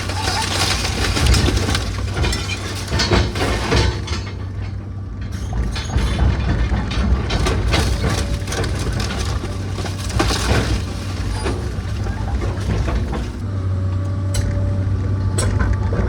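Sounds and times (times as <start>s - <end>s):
timber and debris clattering: 0.0s - 13.5s
heavy machine engine running: 0.0s - 16.0s.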